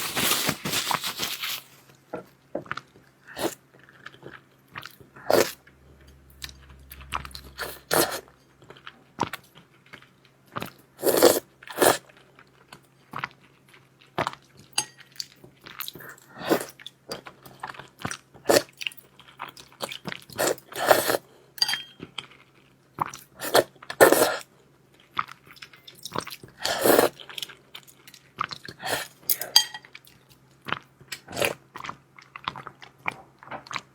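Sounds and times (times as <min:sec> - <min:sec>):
faint steady low hum: 0:01.7 - 0:32.4.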